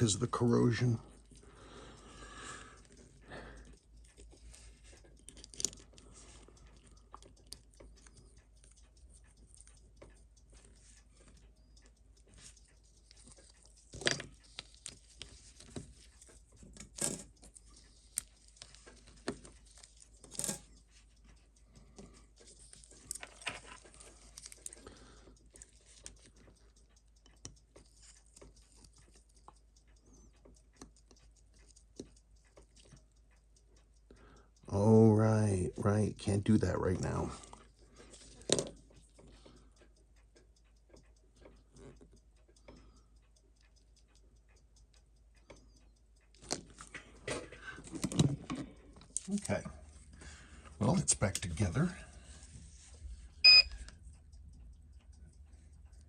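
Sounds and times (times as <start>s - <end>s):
small tools clicking and tapping: 0.7s - 34.7s, 37.3s - 52.2s.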